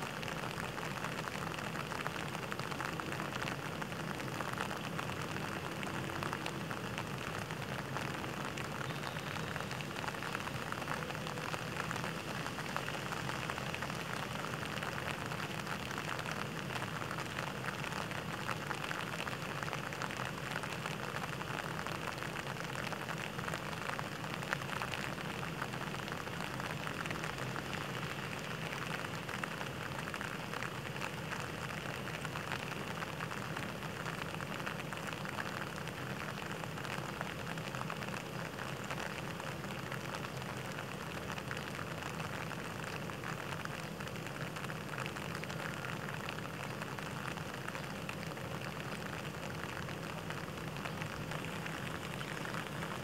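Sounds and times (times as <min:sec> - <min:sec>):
rain on water: 0:00.0 - 0:53.0.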